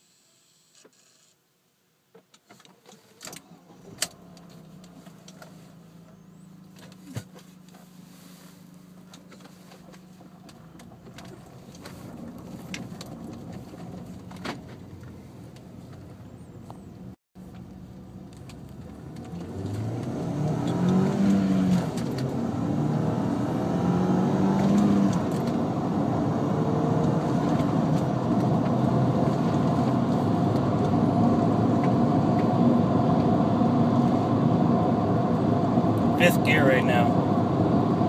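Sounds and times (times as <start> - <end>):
road noise: 3.2 - 38.0
car engine accelerating: 3.4 - 38.0.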